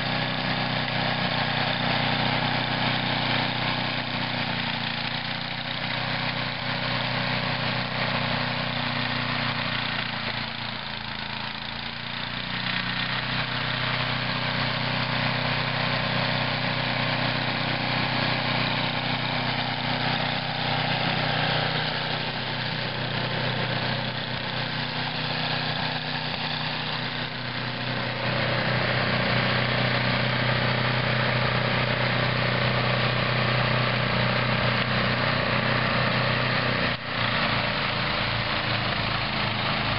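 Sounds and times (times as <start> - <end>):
snow thrower engine running: 0.0 - 39.9.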